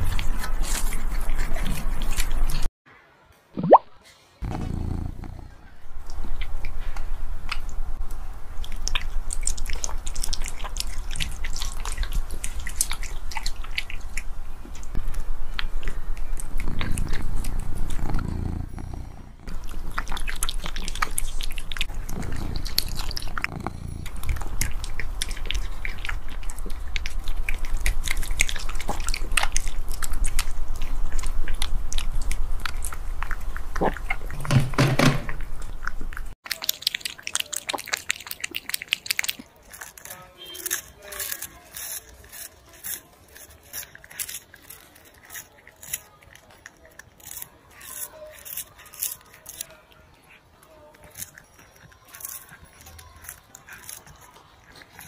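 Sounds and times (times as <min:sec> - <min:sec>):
cat chewing raw meat: 0:00.0 - 0:02.7, 0:04.4 - 0:55.0.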